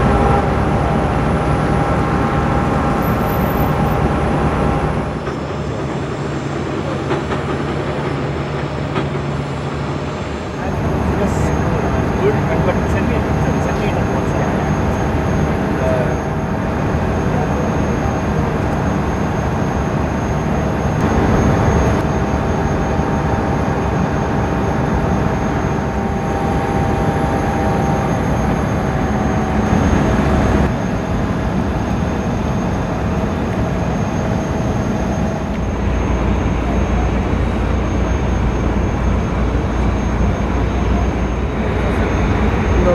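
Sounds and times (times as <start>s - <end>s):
jet engines roaring: 0.0s - 42.9s.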